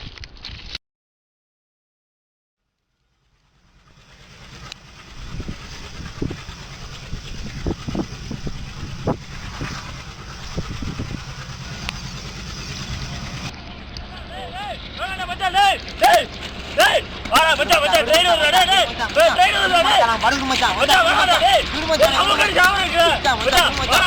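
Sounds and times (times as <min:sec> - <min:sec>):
vehicle engine rumbling: 0:03.0 - 0:24.0.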